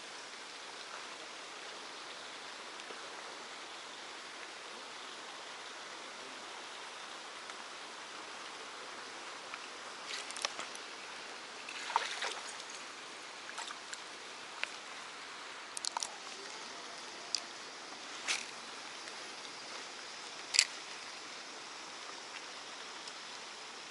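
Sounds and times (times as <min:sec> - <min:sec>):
running water hiss: 0:00.0 - 0:23.9.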